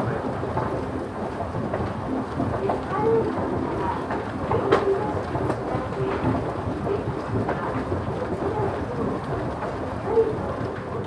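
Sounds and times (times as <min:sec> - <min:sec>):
escalator drive rumble: 0:00.0 - 0:11.0.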